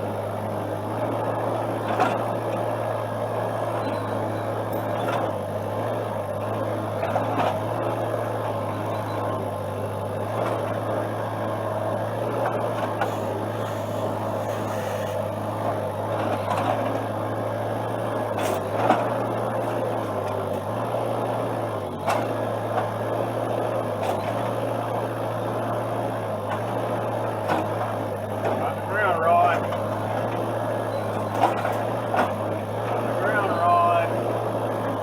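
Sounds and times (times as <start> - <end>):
excavator engine running: 0.0 - 35.0.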